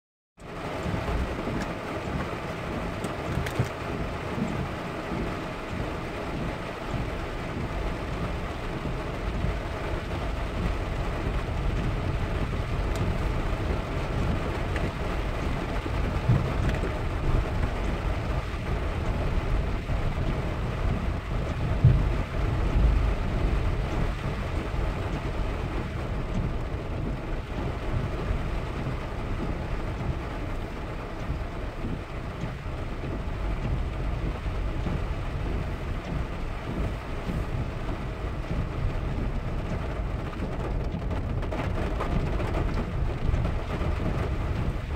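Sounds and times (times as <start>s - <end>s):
car engine and tyre rumble: 0.4s - 44.9s
rain: 0.4s - 44.9s.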